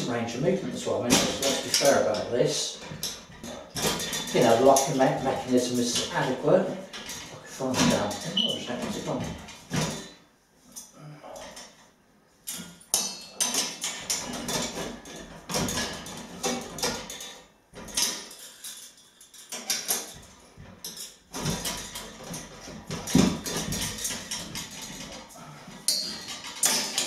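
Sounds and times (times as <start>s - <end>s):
metal trestle clanking and rattling: 0.0s - 10.2s, 12.5s - 27.0s.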